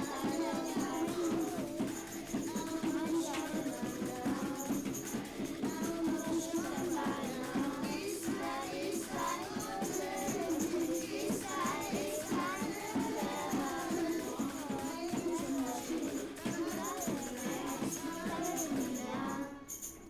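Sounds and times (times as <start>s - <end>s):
jingling high percussion: 0.0s - 20.0s
music with singing voices: 0.0s - 20.0s.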